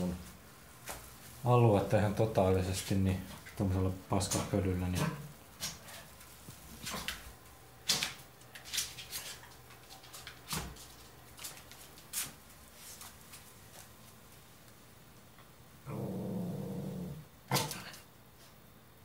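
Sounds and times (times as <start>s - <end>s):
rustles: 0.0s - 16.4s.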